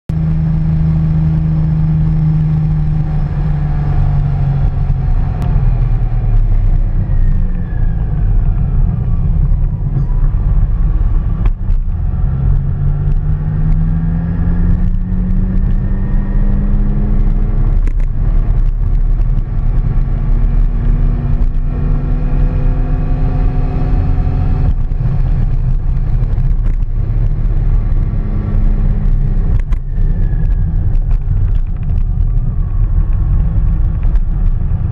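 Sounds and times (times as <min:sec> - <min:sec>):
vehicle engine: 0:00.1 - 0:34.9
wind rumble on microphone: 0:00.1 - 0:34.9.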